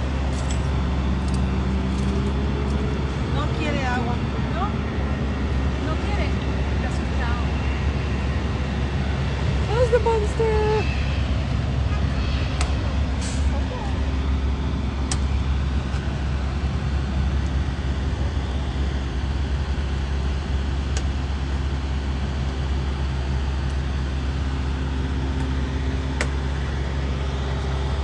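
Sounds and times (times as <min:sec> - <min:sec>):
road noise: 0:00.0 - 0:28.0
vehicle engine rumble: 0:00.0 - 0:28.0.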